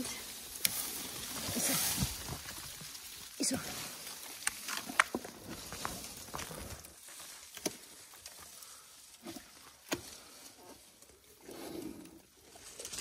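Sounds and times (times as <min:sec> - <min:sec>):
branches snapping and cracking: 0:00.0 - 0:13.0.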